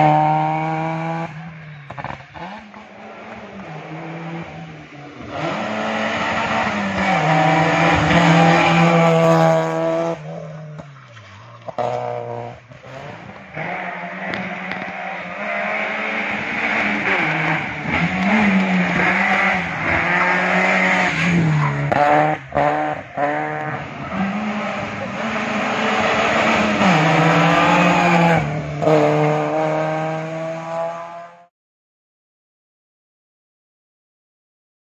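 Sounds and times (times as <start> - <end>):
rally car engine revving: 0.0 - 31.5.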